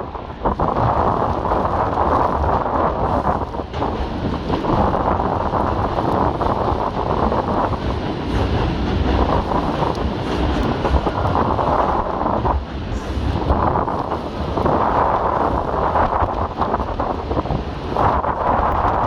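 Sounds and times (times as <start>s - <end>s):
blizzard wind buffeting microphone: 0.0s - 19.0s.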